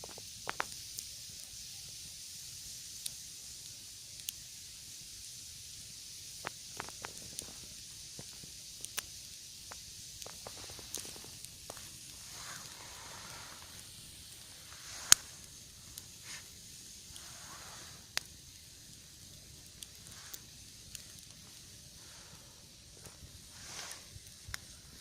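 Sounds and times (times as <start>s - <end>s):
campfire crackling: 0.0s - 25.0s
loud crack of fire: 0.0s - 25.0s.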